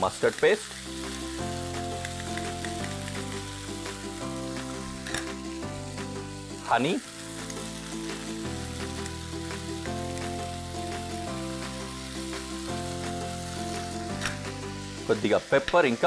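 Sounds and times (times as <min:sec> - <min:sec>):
background music sustained chords: 0:00.0 - 0:16.0
food sizzling in a frying pan: 0:00.0 - 0:16.0.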